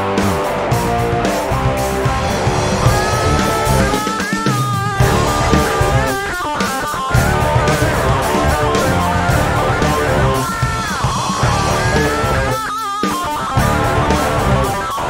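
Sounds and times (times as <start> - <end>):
bass guitar: 0.0 - 12.8, 13.4 - 15.0
electric guitar rock: 0.0 - 15.0.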